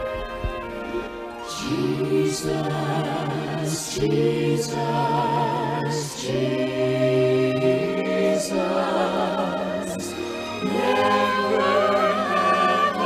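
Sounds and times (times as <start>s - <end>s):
vocal ensemble singing in harmony: 1.4s - 13.0s.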